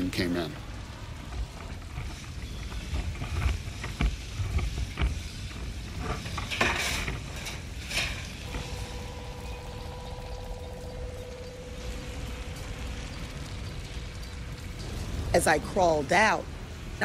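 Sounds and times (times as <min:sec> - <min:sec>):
fire crackles and clicks: 0:00.0 - 0:17.0
low fire rumble: 0:00.0 - 0:17.0
steady hum: 0:03.0 - 0:17.0.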